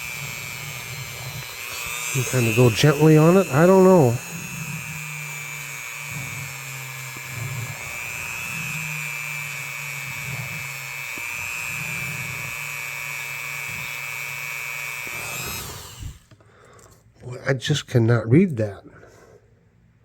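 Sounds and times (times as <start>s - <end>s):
rotary tool whining: 0.0s - 16.4s
tool humming against metal: 0.0s - 16.4s.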